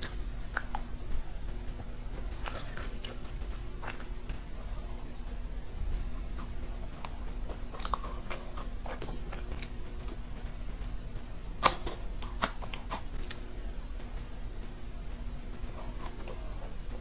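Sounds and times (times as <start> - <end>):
macaron crunching and chewing: 0.0 - 17.0.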